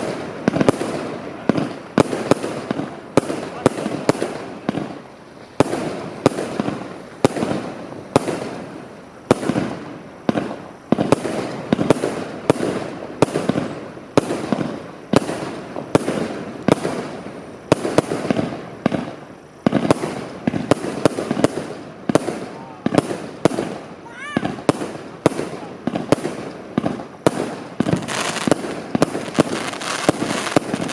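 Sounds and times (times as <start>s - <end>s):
firework bangs with crackling: 0.0s - 30.9s.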